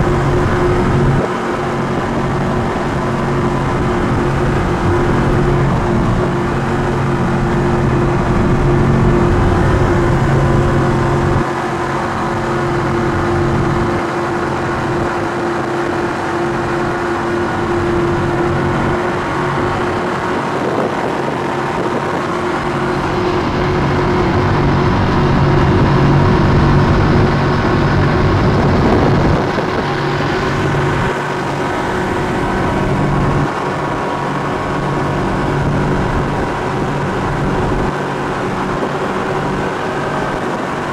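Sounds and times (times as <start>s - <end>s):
boat engines droning at high speed: 0.0s - 40.9s
rushing wind: 0.0s - 40.9s.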